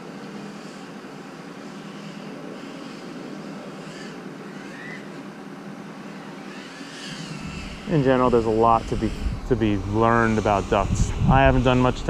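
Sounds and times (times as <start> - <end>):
faint motor whine: 0.0 - 12.0
quadcopter propeller buzz: 0.0 - 12.0.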